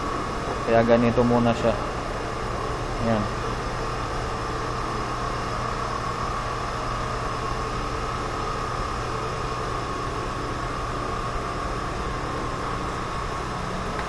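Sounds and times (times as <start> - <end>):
low electrical hum: 0.0 - 14.0
mid-pitched machinery whine: 0.0 - 14.0.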